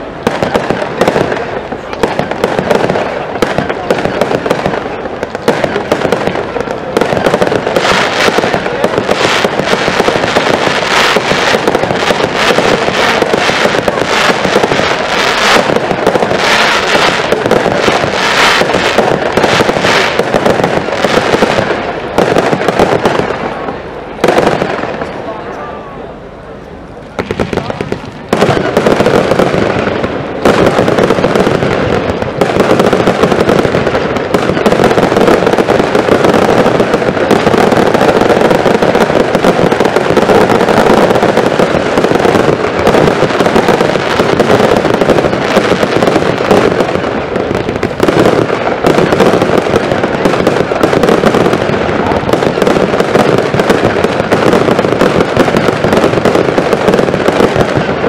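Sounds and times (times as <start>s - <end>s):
fireworks rapid bangs: 0.0s - 25.4s, 27.1s - 58.0s.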